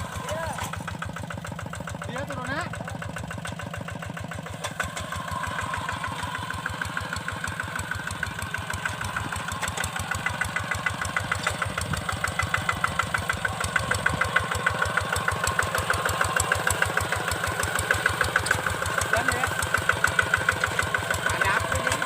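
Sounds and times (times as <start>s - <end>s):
diesel engine chugging: 0.0s - 22.0s.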